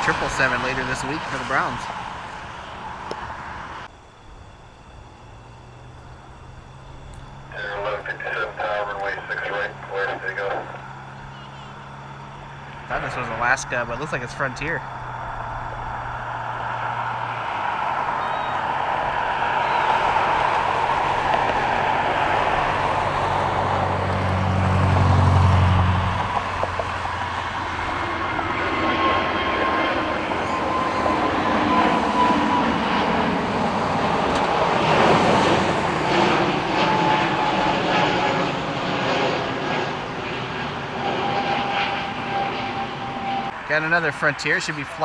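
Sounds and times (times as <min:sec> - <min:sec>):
jet engines rushing and whining: 0:00.0 - 0:45.0
low drone: 0:00.0 - 0:45.0.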